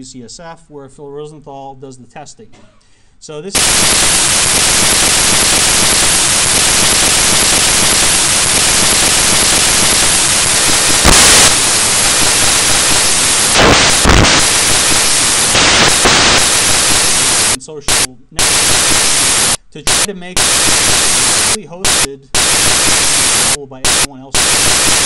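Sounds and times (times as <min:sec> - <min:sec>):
loud static hiss: 0:03.6 - 0:25.0.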